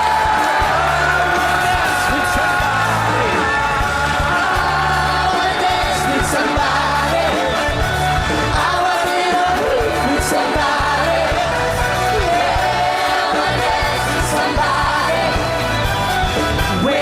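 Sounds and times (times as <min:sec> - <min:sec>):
pop music with singing: 0:00.0 - 0:17.0.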